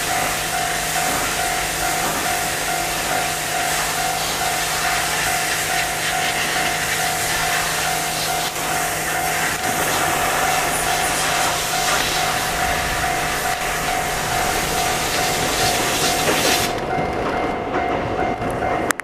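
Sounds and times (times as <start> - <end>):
level crossing bell ringing: 0.0 - 19.0
train running: 0.0 - 19.0.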